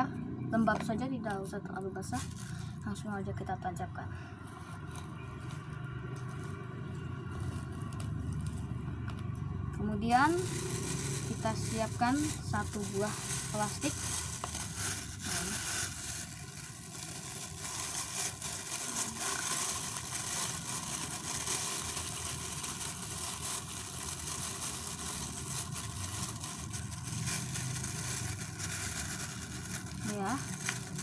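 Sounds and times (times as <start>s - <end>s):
low engine hum: 0.0s - 31.0s
plastic bag crinkling: 2.0s - 2.9s, 4.7s - 31.0s.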